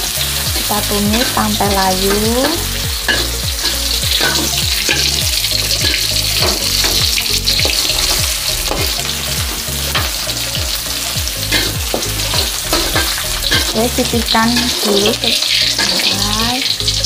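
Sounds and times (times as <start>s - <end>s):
onion sizzling in hot oil: 0.0s - 17.0s
metal spatula scraping a pan: 0.1s - 16.8s.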